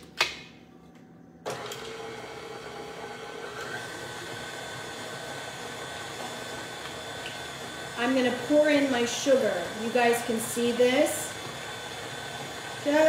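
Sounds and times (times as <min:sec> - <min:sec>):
stand mixer motor running: 0:01.5 - 0:13.0.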